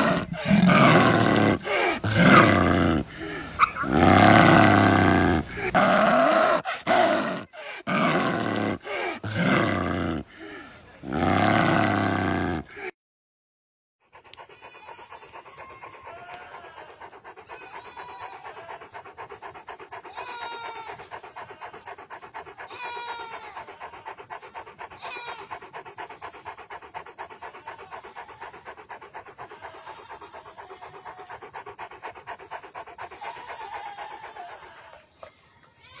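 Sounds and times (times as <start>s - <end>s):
dog panting quickly: 0.0s - 13.0s, 14.0s - 36.0s.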